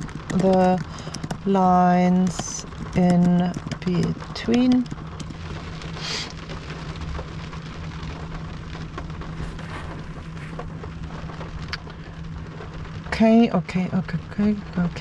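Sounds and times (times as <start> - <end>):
rain on car roof: 0.0 - 15.0
steady low hum: 0.0 - 15.0.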